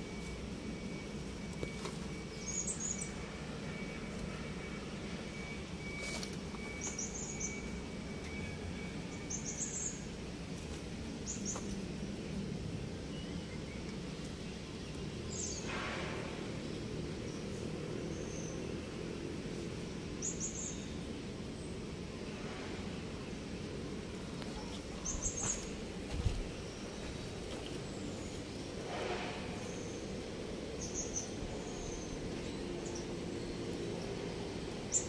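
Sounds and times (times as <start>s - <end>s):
birds chirping: 0.0s - 22.2s, 23.0s - 28.8s, 29.5s - 35.0s
low hum of background noise: 0.0s - 35.0s.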